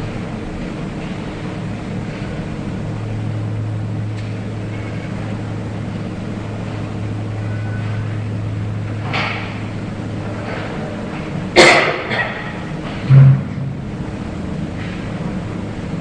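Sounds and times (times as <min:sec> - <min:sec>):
induction furnace humming: 0:00.0 - 0:16.0.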